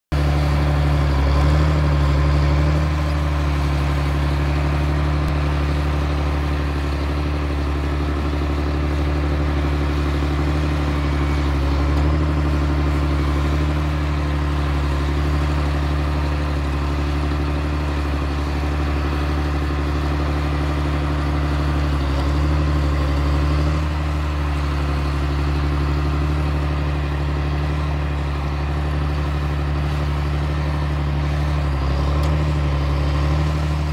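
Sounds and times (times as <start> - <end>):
tractor diesel engine droning: 0.1 - 33.9.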